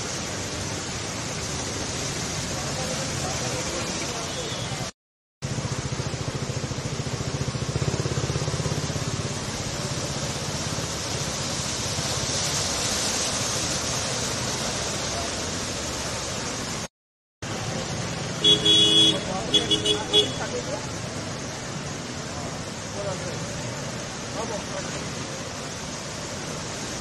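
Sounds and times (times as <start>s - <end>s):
water sprayed by tyres: 0.0s - 27.0s.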